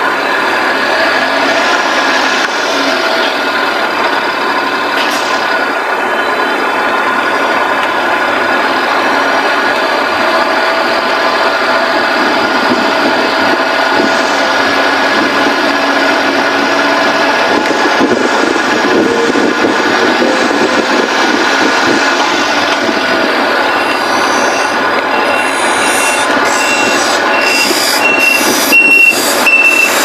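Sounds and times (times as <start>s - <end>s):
tyre and road noise: 0.0s - 30.0s.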